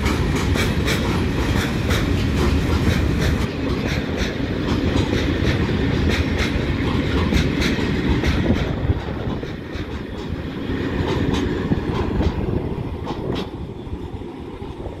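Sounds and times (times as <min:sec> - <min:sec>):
wheels clicking over rail joints: 0:00.0 - 0:14.9
freight train rumbling past: 0:00.0 - 0:15.0.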